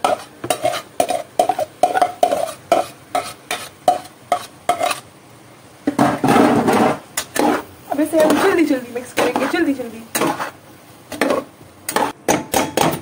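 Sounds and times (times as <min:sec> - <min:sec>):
spatula scraping rice in pan: 0:00.0 - 0:05.1, 0:06.0 - 0:12.2.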